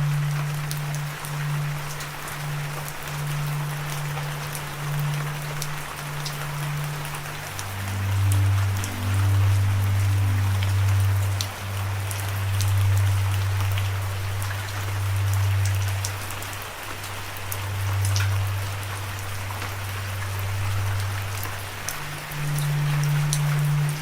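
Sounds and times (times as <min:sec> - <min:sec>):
low drone: 0:00.0 - 0:24.0
steady rainfall: 0:00.0 - 0:24.0.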